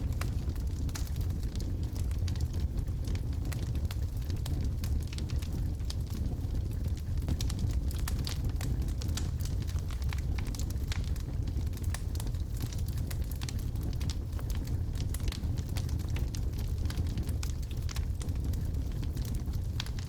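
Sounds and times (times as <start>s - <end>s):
logs burning with crackles: 0.0s - 20.0s.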